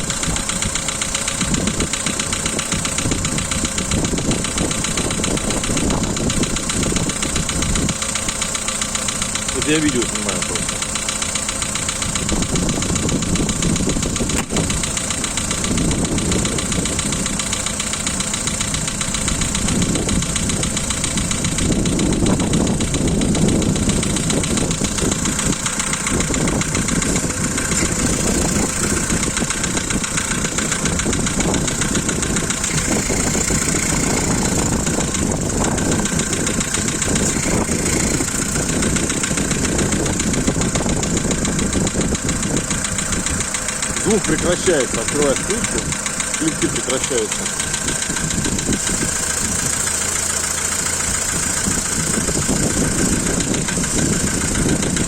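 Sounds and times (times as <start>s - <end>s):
engine idling with tapping knock: 0.0s - 55.0s.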